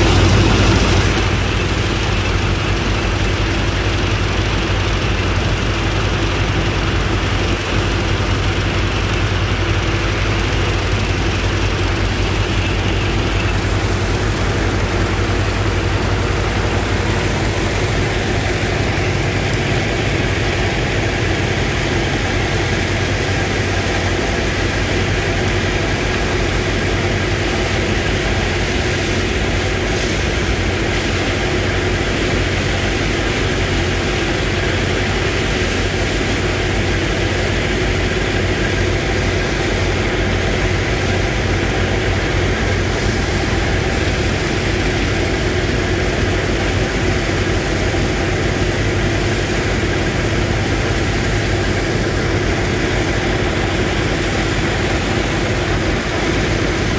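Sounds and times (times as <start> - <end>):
pump engine droning: 0.0 - 56.9.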